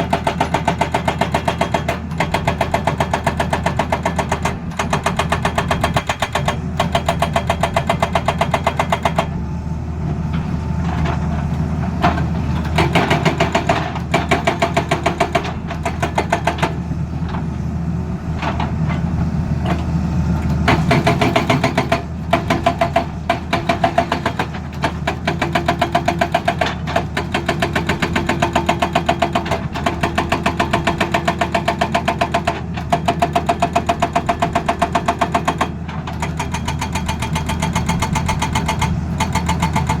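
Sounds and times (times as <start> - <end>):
hydraulic breaker hammering: 0.0 - 9.4, 11.9 - 17.5, 20.6 - 40.0
diesel engine running: 0.0 - 40.0.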